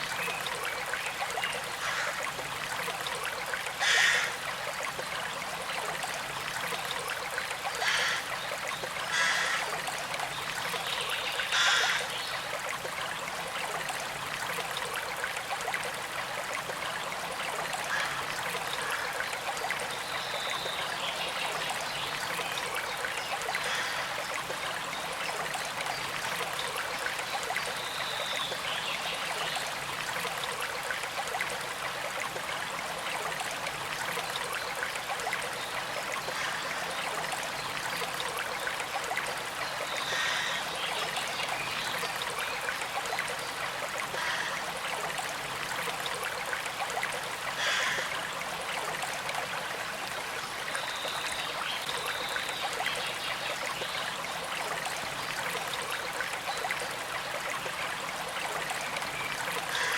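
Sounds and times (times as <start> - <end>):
creek flowing: 0.0 - 59.9.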